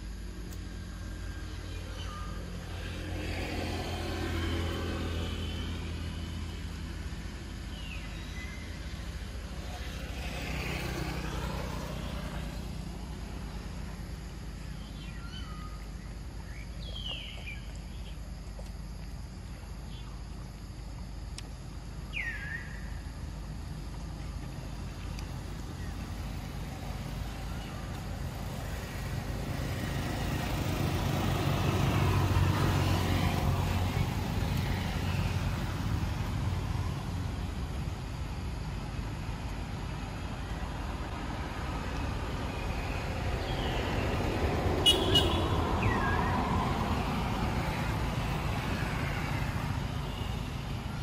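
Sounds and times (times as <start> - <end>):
vehicle engine hum: 0.0 - 51.0.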